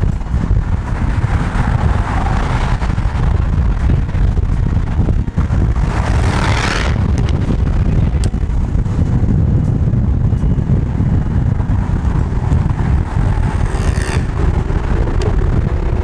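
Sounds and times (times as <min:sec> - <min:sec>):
passing cars rushing: 0:00.0 - 0:16.0
road and engine rumble: 0:00.0 - 0:16.0
wind buffeting microphone: 0:00.0 - 0:16.0.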